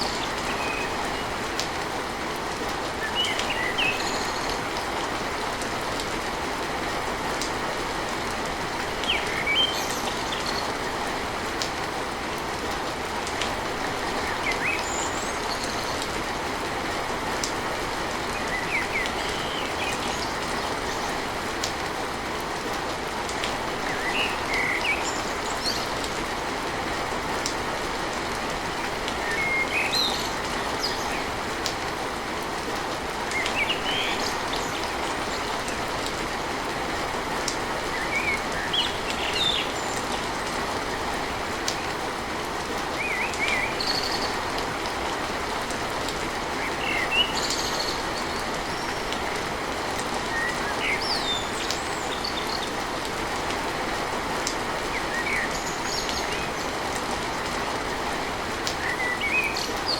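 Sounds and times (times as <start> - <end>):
rain drumming on a tin roof: 0.0 - 59.9.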